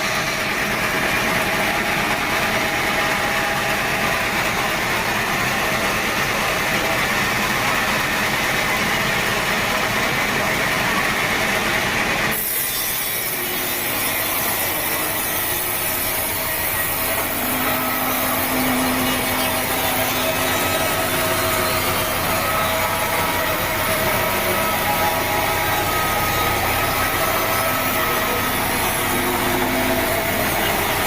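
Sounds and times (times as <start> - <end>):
sawmill saw cutting wood: 0.0 - 31.0.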